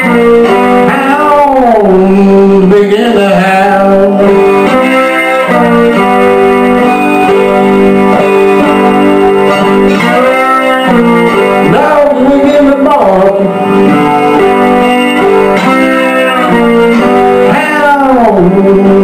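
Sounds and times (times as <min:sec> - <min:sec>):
slide electric guitar blues: 0:00.0 - 0:19.0.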